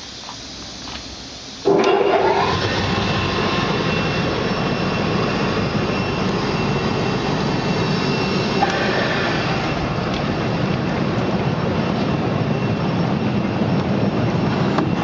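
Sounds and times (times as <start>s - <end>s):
air blower whining and running: 0.0s - 15.0s.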